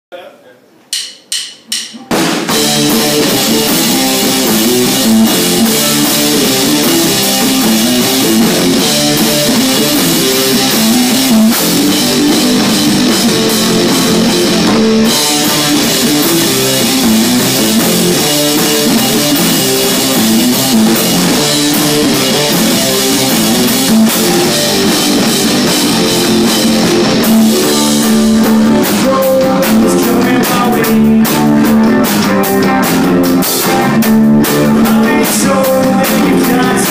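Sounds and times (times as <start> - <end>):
drum kit: 0.8 - 36.9
rock band playing: 1.0 - 36.9
guitar: 1.3 - 36.9.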